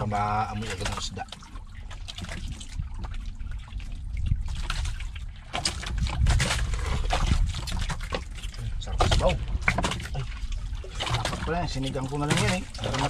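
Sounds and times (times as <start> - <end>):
low rumble: 0.0 - 13.0
water sloshing and trickling: 0.0 - 13.0.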